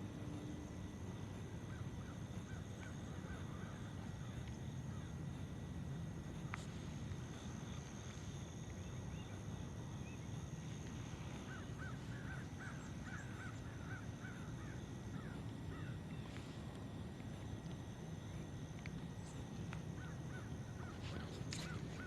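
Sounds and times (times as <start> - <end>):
steady low rumble: 0.0 - 22.0
distant birds calling: 1.2 - 22.0.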